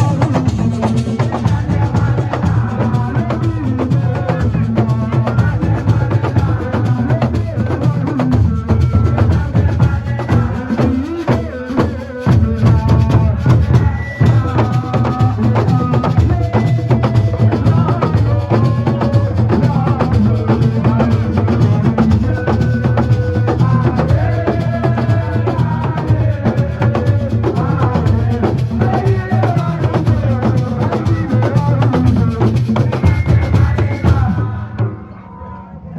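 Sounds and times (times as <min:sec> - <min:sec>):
music with heavy drumming: 0:00.0 - 0:34.9.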